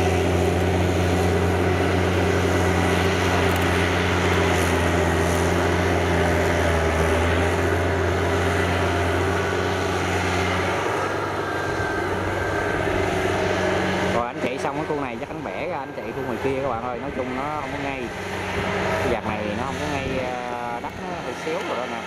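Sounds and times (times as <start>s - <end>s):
diesel engine under load: 0.0s - 22.0s
tiller blades churning mud: 0.0s - 22.0s.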